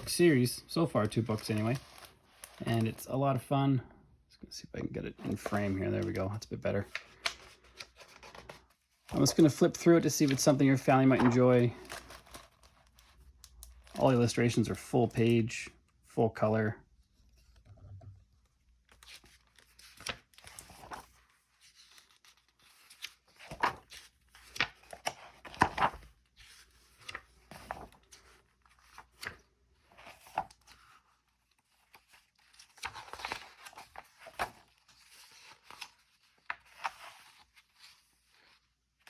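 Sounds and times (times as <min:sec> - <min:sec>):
book pages turning: 0:00.0 - 0:03.1, 0:05.1 - 0:14.3, 0:18.4 - 0:39.0.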